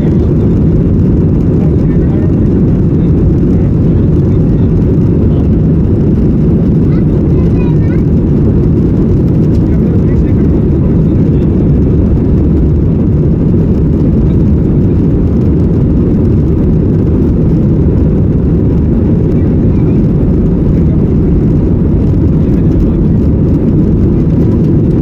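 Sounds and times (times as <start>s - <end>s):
airliner engines rumbling: 0.0s - 25.0s.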